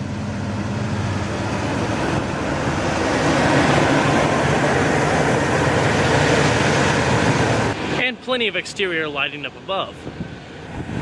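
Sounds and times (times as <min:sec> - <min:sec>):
broad rushing noise: 0:00.0 - 0:11.0.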